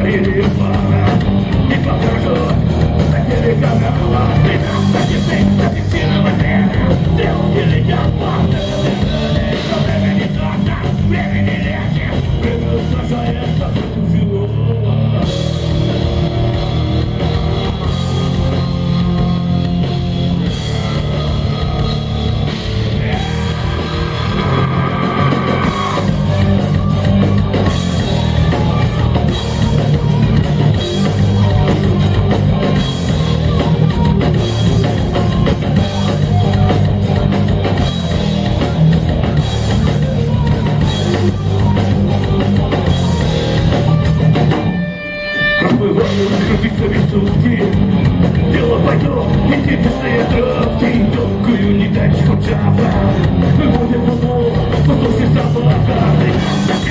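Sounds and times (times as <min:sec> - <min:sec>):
punk rock band playing: 0:00.0 - 0:56.9.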